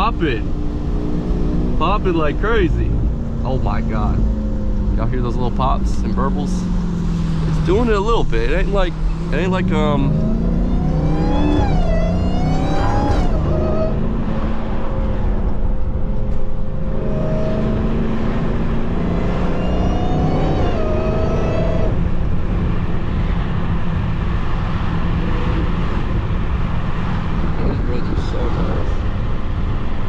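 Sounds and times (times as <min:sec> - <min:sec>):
car engine accelerating hard: 0:00.0 - 0:30.0
supercharger whine: 0:00.0 - 0:30.0.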